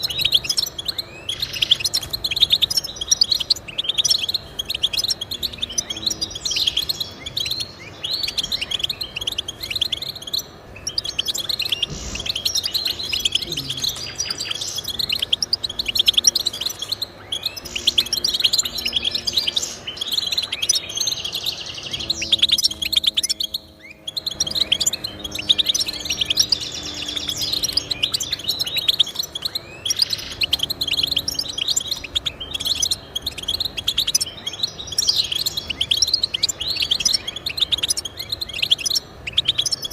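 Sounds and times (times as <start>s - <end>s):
goldfinch singing: 0.0s - 39.9s.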